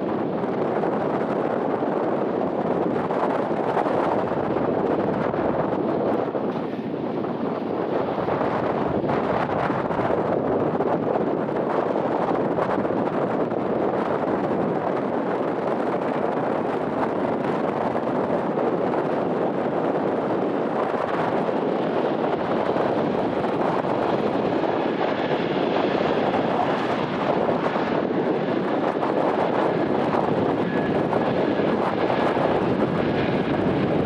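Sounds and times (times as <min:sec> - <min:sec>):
jet engines roaring: 0:00.0 - 0:34.0
wind buffeting microphone: 0:00.0 - 0:34.0.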